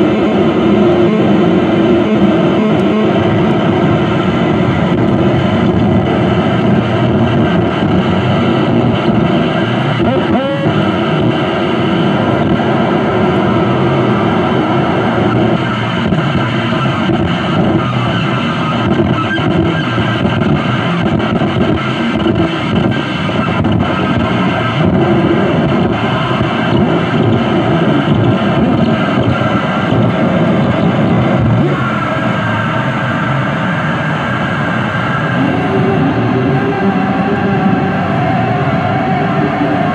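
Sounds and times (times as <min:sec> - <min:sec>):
harsh distorted noise music: 0:00.0 - 0:39.9.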